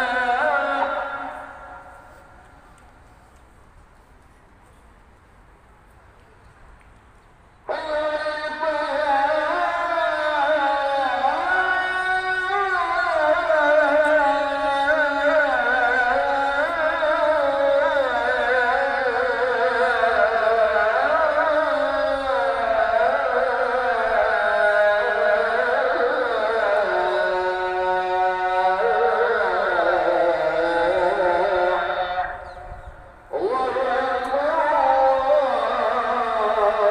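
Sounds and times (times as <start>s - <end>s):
person chanting ornamented melody: 0.0s - 2.9s, 7.6s - 36.9s.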